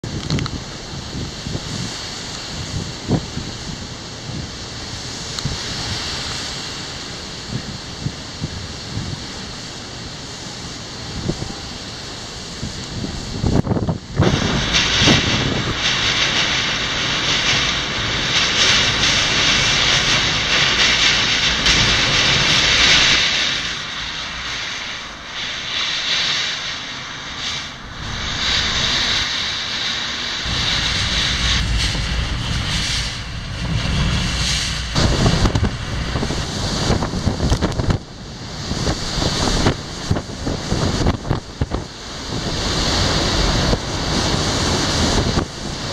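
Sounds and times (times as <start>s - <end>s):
driving rain: 0.0s - 45.9s
roaring wind: 0.0s - 45.9s
wind gusts hitting microphone: 0.0s - 45.9s.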